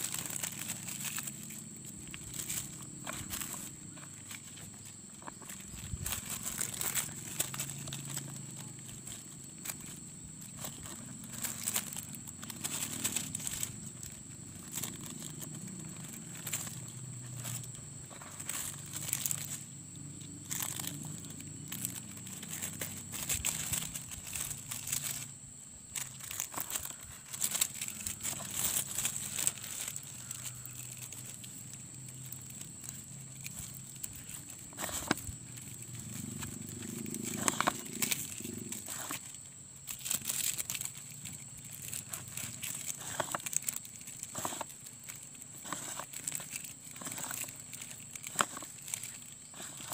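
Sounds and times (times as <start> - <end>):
plastic tape crinkling: 0.0 - 49.9.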